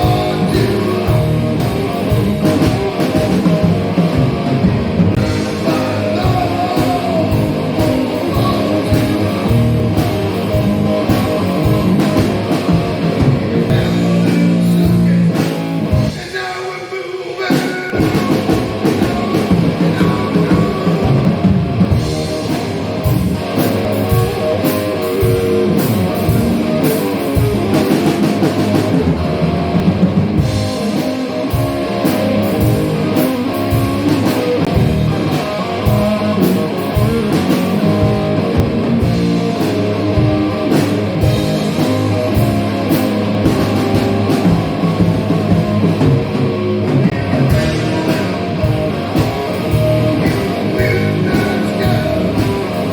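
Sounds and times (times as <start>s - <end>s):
drum kit: 0.0s - 16.7s, 17.5s - 52.9s
blues rock punk song: 0.0s - 52.9s
electric guitar: 0.0s - 52.9s.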